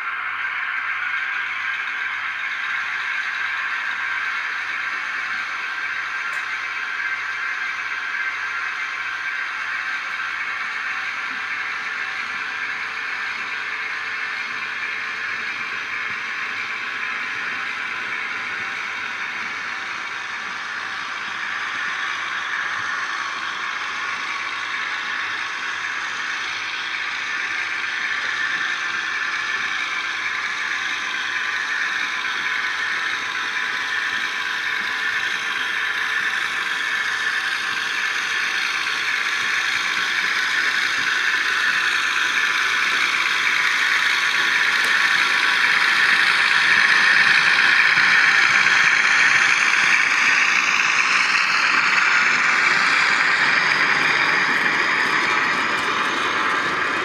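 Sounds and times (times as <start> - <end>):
diesel engine sound effect: 0.0 - 57.0
model train whirring and clattering: 0.0 - 57.0.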